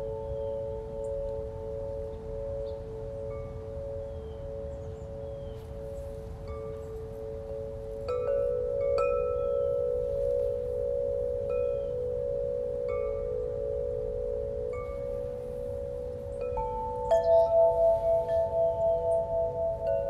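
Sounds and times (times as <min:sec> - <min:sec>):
chimes ringing: 0:00.0 - 0:20.0
steady held tones: 0:00.0 - 0:20.0.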